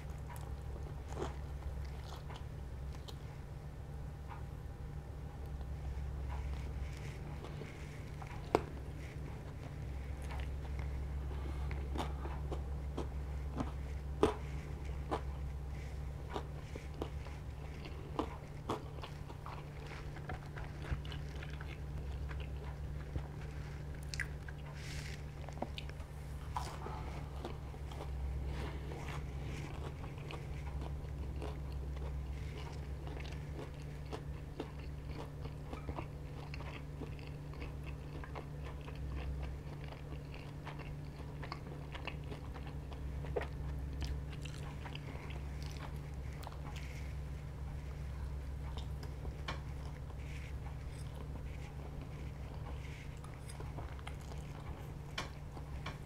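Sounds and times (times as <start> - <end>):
chewing fried chicken crunches: 0.0 - 3.7, 5.4 - 56.0
steady low hum: 0.0 - 56.0.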